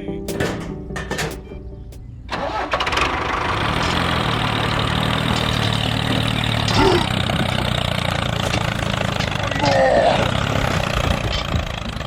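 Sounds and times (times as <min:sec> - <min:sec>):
small tractor engine: 0:00.3 - 0:12.0.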